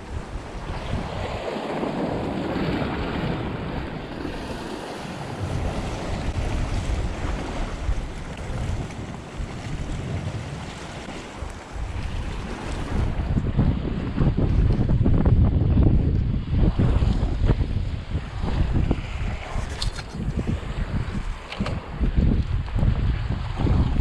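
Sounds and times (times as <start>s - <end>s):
gusty wind buffeting microphone: 0.0s - 24.0s
sea waves against rocky shore: 0.0s - 24.0s.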